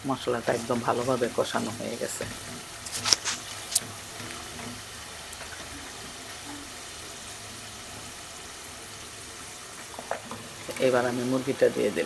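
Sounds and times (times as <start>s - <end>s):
paste sizzling in oil: 0.0s - 12.0s.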